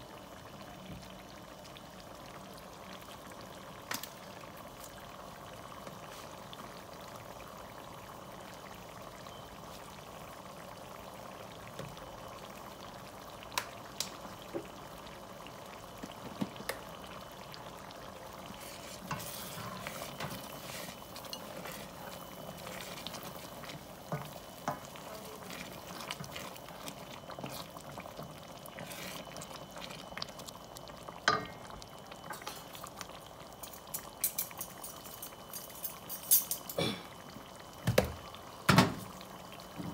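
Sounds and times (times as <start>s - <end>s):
sauce bubbling in a pot: 0.0s - 39.9s.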